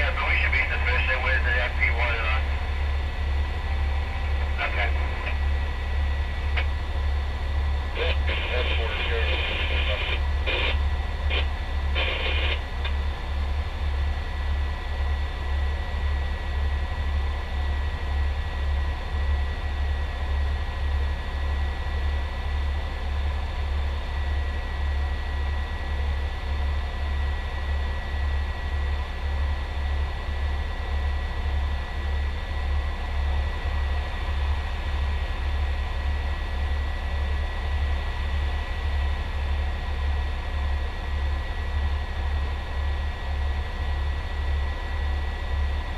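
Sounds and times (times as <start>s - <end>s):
diesel engine idling: 0.0s - 45.9s
faint steady whine: 0.0s - 45.9s.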